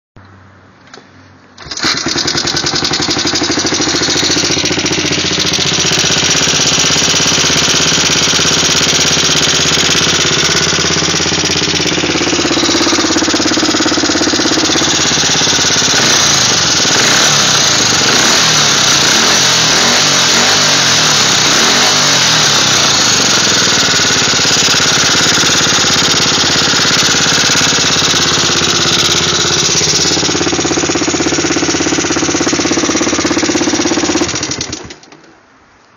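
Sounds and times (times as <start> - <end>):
engine running with fast clicking: 0.2 - 35.4.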